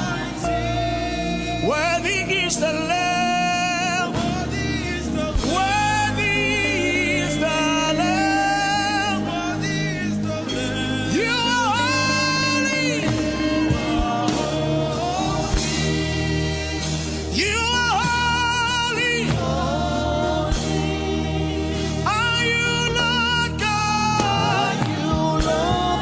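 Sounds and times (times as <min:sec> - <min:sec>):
choir backing vocals: 0:00.0 - 0:26.0
lead voice singing: 0:00.0 - 0:26.0
sustained accompanying chords: 0:00.0 - 0:26.0.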